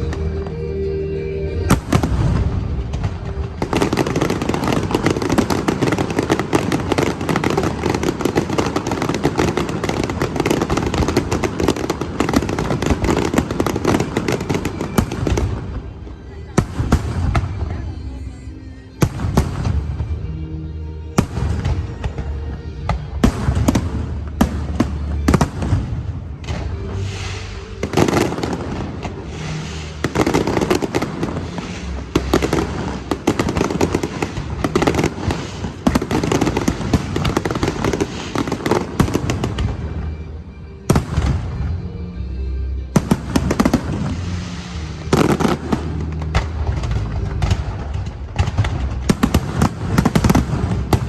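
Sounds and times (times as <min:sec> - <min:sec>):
background music: 0:00.0 - 0:51.0
aerial fireworks bursting: 0:01.7 - 0:18.0, 0:23.2 - 0:40.0, 0:43.0 - 0:51.0.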